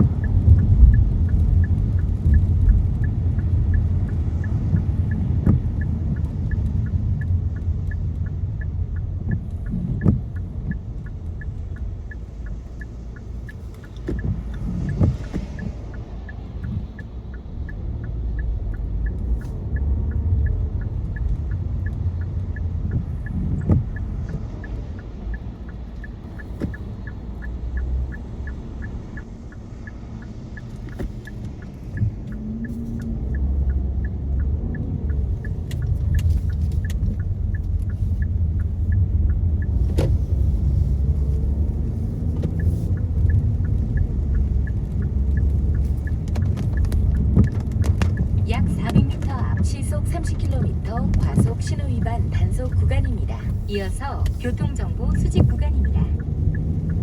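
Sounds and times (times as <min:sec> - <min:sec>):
faint regular ticking: 0:00.0 - 0:57.0
tyres and engine rumble: 0:00.0 - 0:57.0.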